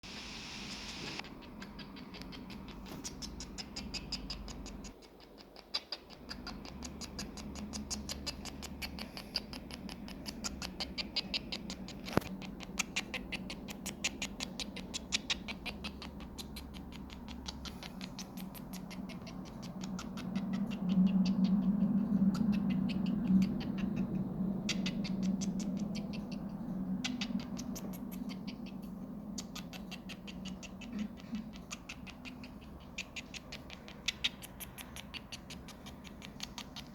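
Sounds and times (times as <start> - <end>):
low hum: 6.1 - 36.9.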